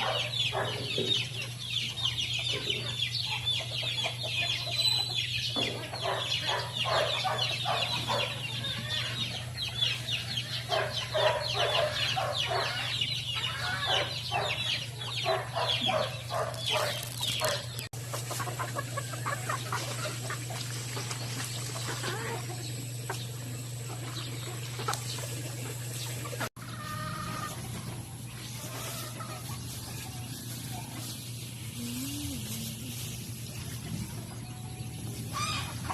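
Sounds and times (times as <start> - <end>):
chickens clucking: 0.0 - 35.9
steady low hum: 5.2 - 35.9.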